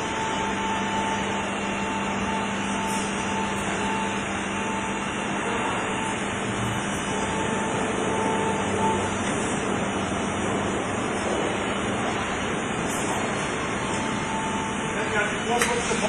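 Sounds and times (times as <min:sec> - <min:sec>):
boring machine hum and whir: 0:00.0 - 0:16.0.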